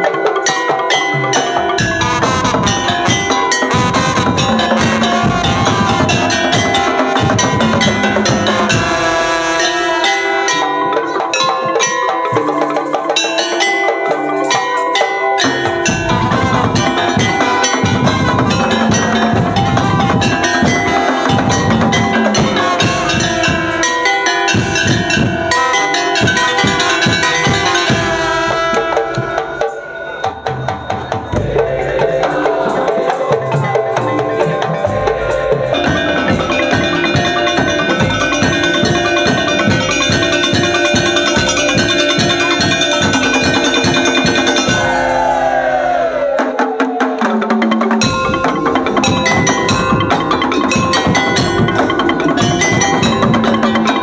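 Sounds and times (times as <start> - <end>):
tuned mallet percussion: 0.0 - 46.4, 47.4 - 54.0
steady drum strokes: 0.0 - 54.0.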